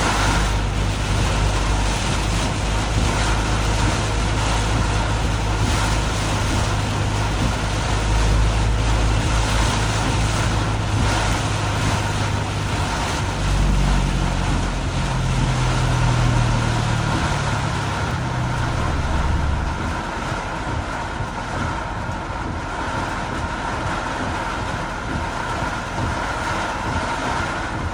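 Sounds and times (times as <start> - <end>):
rain and tyre spray hiss: 0.0 - 27.9
vehicle engines humming: 0.0 - 27.9.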